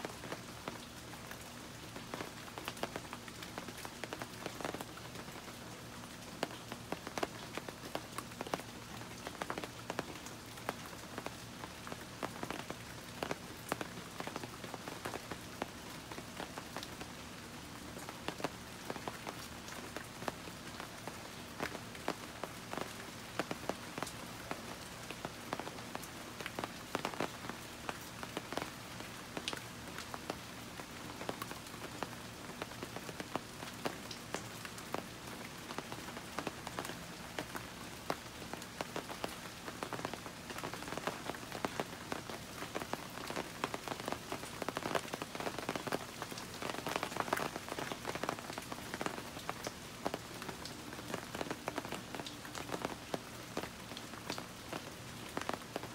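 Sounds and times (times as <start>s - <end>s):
raindrops striking close by: 0.0s - 55.9s
steady rain falling: 0.0s - 55.9s.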